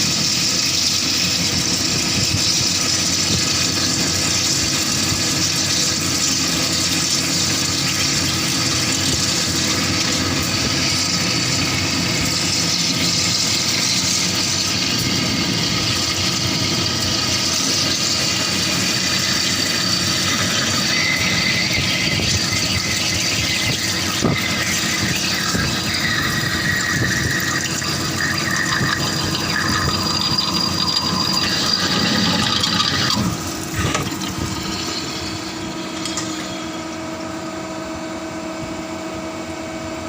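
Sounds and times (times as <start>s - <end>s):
high squealing tone: 0.0s - 37.4s
drilling machine hum and hiss: 0.0s - 40.0s.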